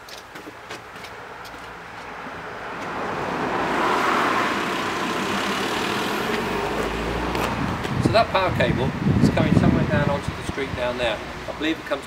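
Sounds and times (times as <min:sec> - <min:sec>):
car tyre and engine noise: 0:00.0 - 0:12.0.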